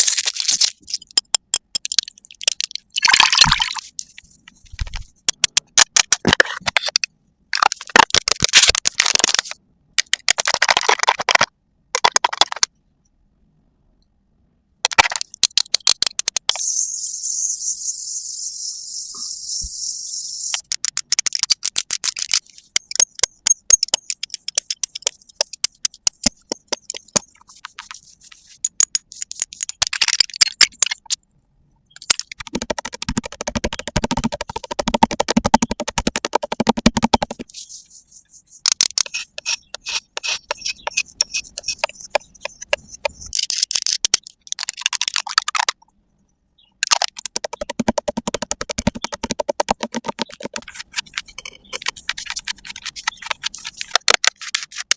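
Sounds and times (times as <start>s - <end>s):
tapping and scratching: 0.7s - 12.7s, 18.4s - 31.2s, 31.9s - 45.8s, 46.8s - 54.9s.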